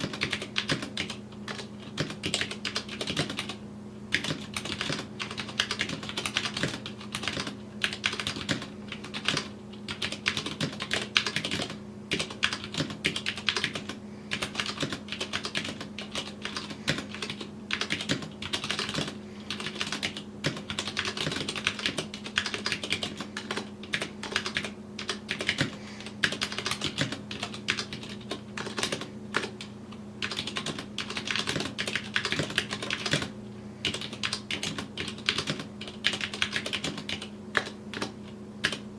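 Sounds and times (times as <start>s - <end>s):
faint steady hum: 0.0s - 38.9s
mechanical keyboard typing: 0.0s - 38.9s.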